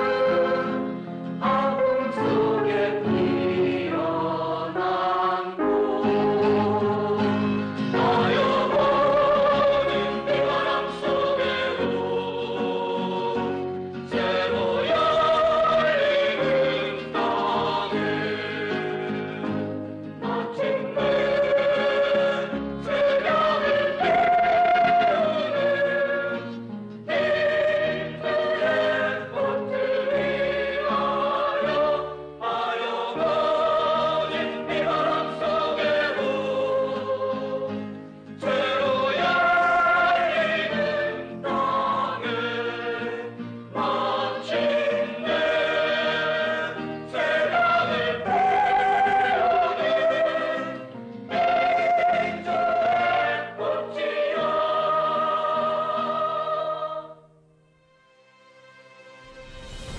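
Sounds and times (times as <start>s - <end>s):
group singing in chorus: 0.0s - 57.3s.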